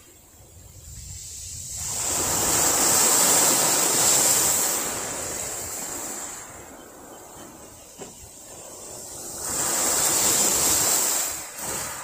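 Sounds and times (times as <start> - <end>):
wave breaking on beach: 1.0 - 12.0.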